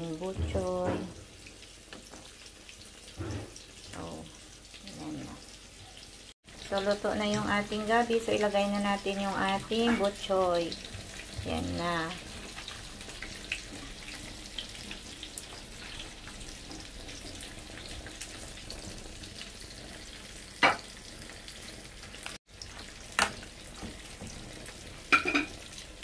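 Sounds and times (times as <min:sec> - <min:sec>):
broth simmering and bubbling: 0:00.1 - 0:26.0.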